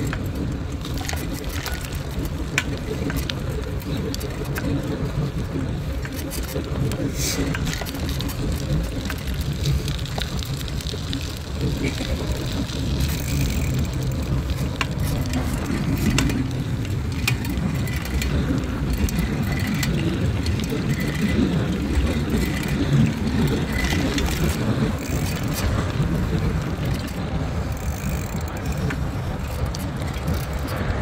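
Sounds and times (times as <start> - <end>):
low rumble of passing vehicles: 0.0 - 31.0.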